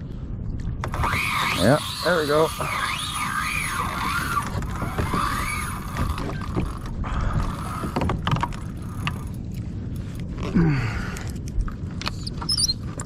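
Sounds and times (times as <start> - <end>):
water noise: 0.0 - 10.5
wind: 0.0 - 13.0.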